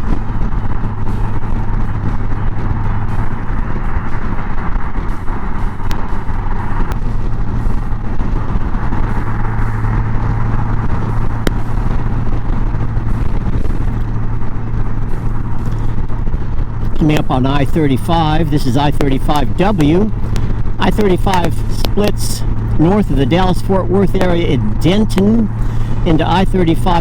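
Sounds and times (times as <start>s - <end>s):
motorcycle engine cruising: 0.0s - 27.0s
wind and road noise: 0.0s - 27.0s.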